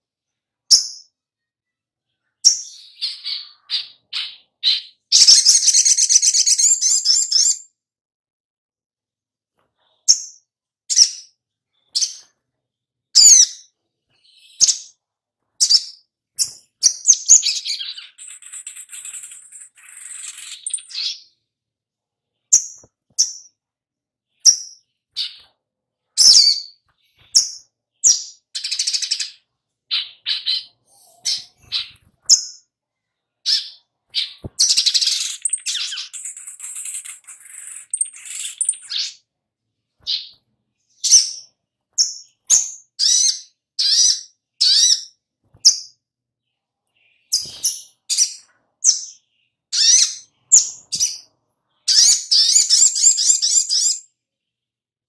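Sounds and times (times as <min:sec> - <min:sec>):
bird chirping and twittering: 0:00.7 - 0:01.5, 0:02.1 - 0:07.7, 0:09.8 - 0:21.5, 0:22.3 - 0:23.6, 0:24.3 - 0:39.3, 0:39.9 - 0:54.4.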